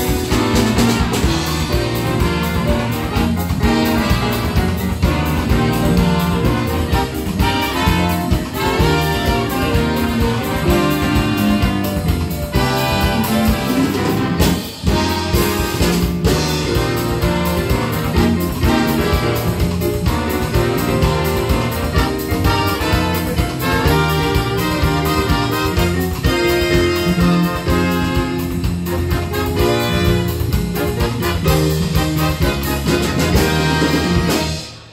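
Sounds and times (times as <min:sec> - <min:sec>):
drum kit: 0:00.0 - 0:34.9
electric bass: 0:00.0 - 0:34.9
saxophone section: 0:00.0 - 0:34.9
trumpets: 0:00.0 - 0:34.9.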